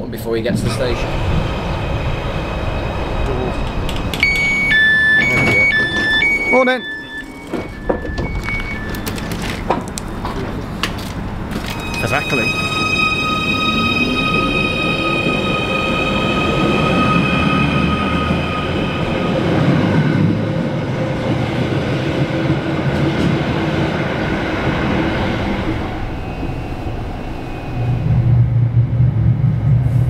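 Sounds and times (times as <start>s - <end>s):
low hum inside train: 0.0s - 30.0s
rushing rail noise: 0.0s - 30.0s
train rumble: 0.0s - 30.0s
train whine: 0.0s - 30.0s.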